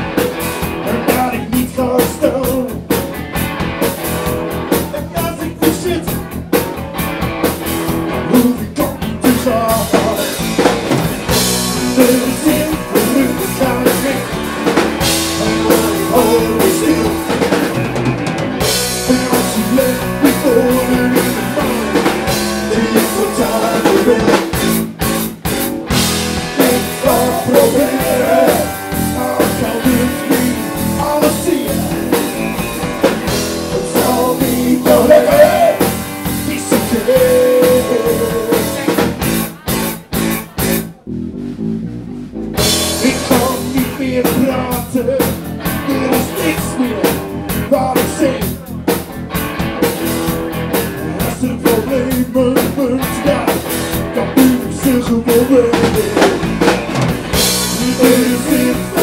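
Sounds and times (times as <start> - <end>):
electric guitars: 0.0 - 41.0, 42.2 - 59.0
drum kit beat: 0.0 - 59.0
man singing lead: 0.6 - 3.2, 4.6 - 7.0, 8.0 - 25.0, 25.9 - 41.0, 42.7 - 49.1, 50.7 - 59.0.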